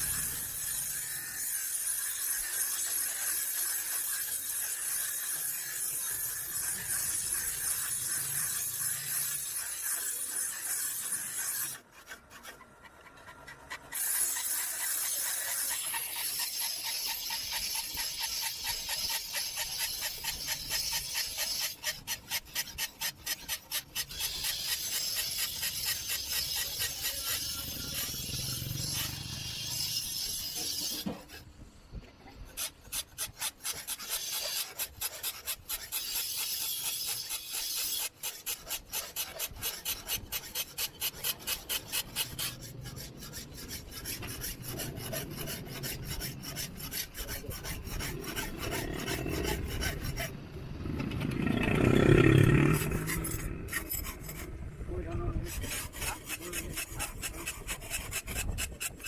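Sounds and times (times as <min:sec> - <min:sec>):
file rasping on steel blade: 0:00.0 - 0:50.4, 0:51.2 - 0:59.0.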